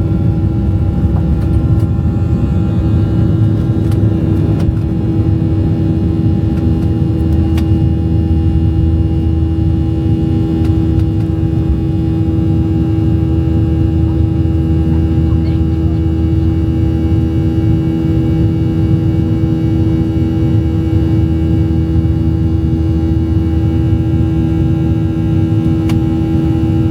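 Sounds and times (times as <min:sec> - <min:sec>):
airplane cabin engine drone: 0:00.0 - 0:26.9.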